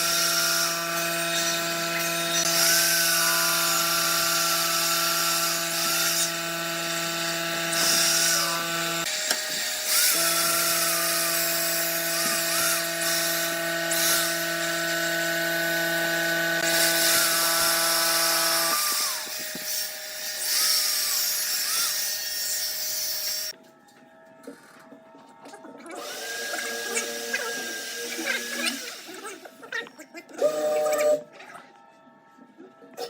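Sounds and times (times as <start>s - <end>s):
power tool cutting wood: 0.0s - 23.6s, 25.9s - 31.3s.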